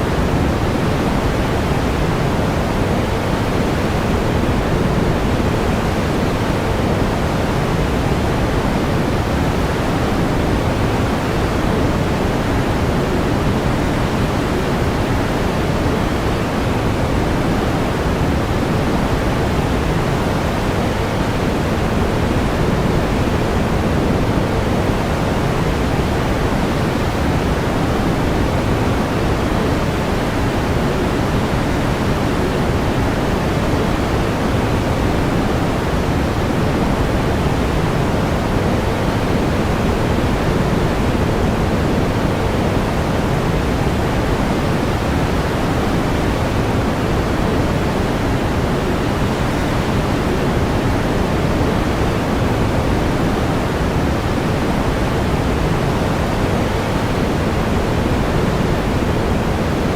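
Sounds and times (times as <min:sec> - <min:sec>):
pink noise hiss: 0:00.0 - 0:59.9.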